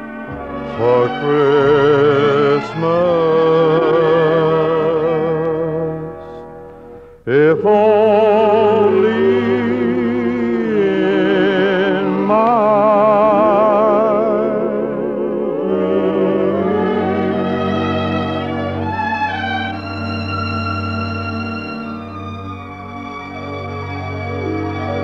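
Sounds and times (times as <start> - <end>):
music with held vibrato notes: 0.0 - 25.0.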